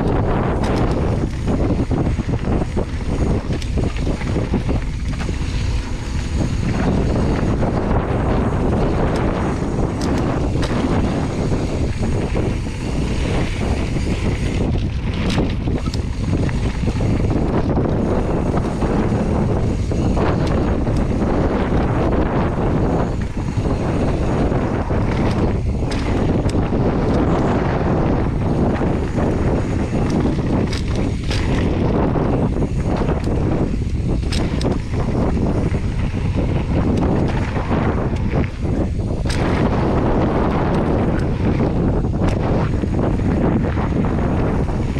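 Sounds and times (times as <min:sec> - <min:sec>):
bike rattling on rocks: 0:00.0 - 0:44.9
tyres rumbling on dirt trail: 0:00.0 - 0:44.9
wind buffeting microphone: 0:00.0 - 0:44.9.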